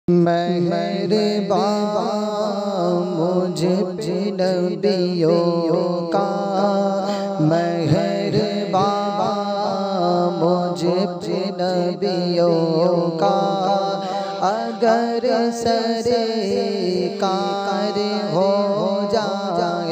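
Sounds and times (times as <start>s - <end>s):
person chanting devotional song: 0.1s - 19.9s.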